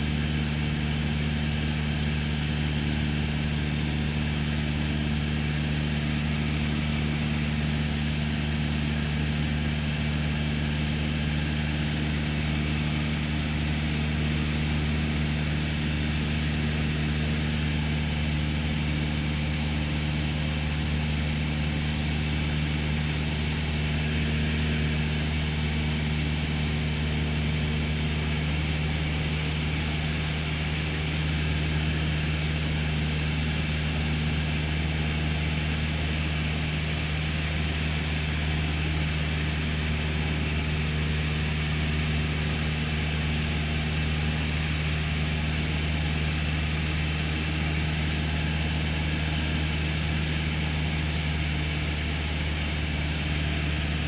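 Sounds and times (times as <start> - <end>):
light aircraft engine drone in cabin: 0.0 - 54.0.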